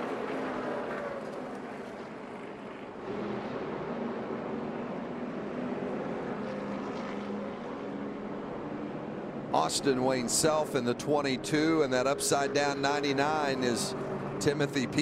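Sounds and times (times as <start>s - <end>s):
race track noise: 0.0s - 15.0s
race truck engines: 0.0s - 15.0s.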